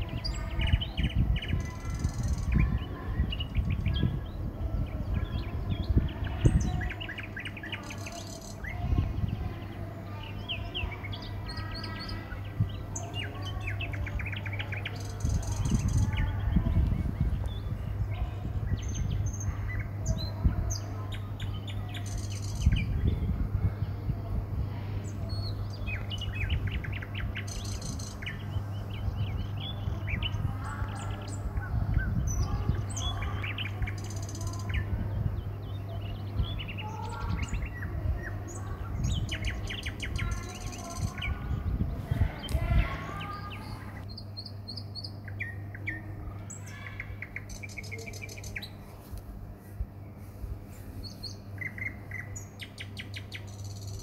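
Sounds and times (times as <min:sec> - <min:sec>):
birds chirping and calling: 0:00.0 - 0:54.0
steady low hum: 0:00.0 - 0:54.0.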